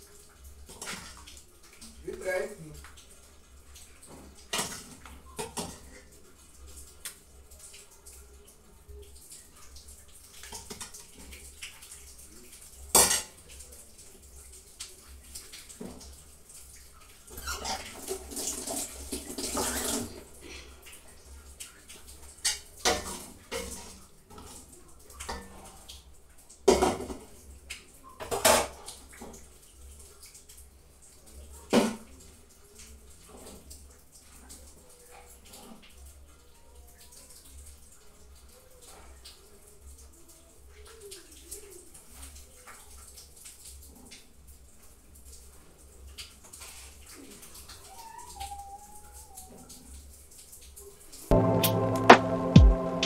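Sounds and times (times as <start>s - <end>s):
liquid pouring and splashing: 0.0s - 51.4s.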